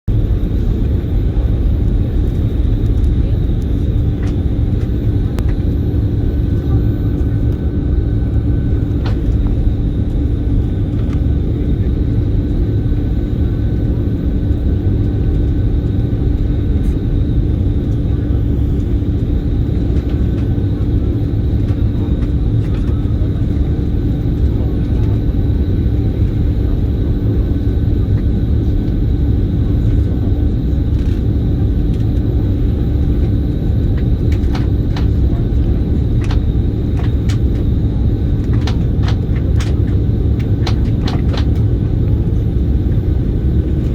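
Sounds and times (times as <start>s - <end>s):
airliner engine rumble: 0.0s - 43.9s
constant hum: 0.1s - 43.9s.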